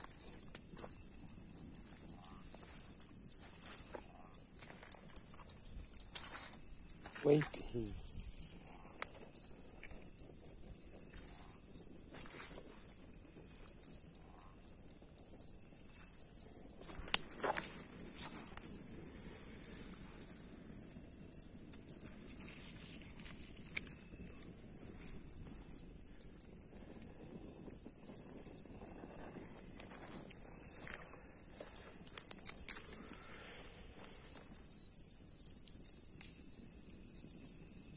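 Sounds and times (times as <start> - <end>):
crickets trilling: 0.0 - 37.9.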